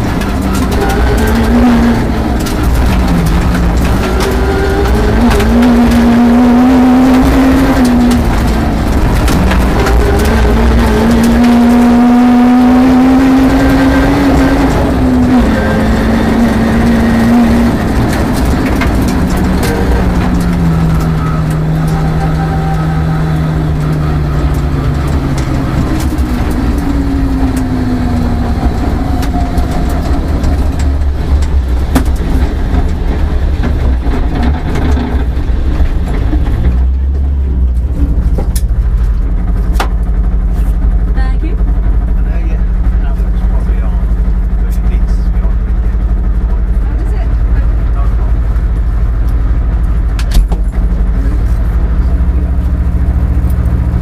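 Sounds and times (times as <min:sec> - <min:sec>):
car engine revving: 0:00.0 - 0:54.0
low road rumble: 0:00.0 - 0:54.0.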